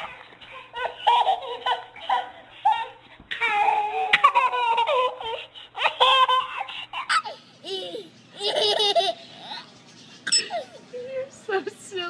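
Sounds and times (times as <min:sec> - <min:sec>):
baby laughing: 0:00.0 - 0:10.8.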